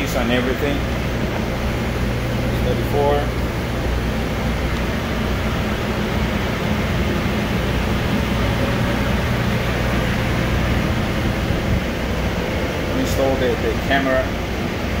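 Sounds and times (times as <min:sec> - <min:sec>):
machinery low hum: 0:00.0 - 0:15.0
steady rushing noise: 0:00.0 - 0:15.0.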